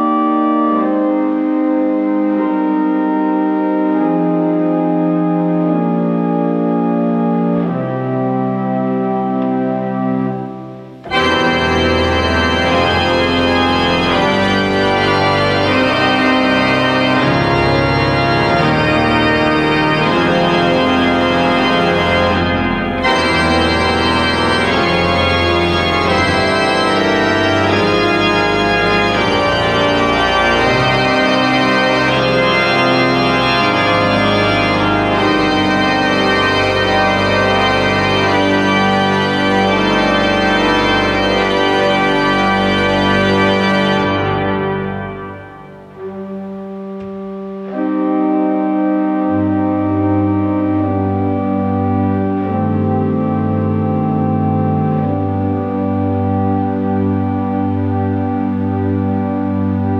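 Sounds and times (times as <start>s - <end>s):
pipe organ chords: 0.0s - 59.9s.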